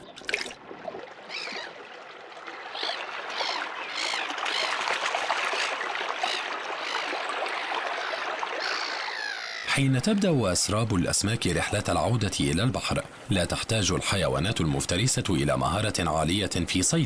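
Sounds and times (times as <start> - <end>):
stream water gurgling over rocks: 0.0 - 17.0.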